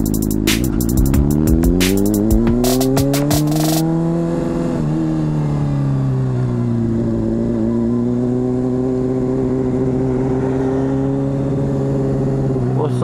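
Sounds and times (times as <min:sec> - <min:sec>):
motorcycle engine riding: 0:00.0 - 0:13.0.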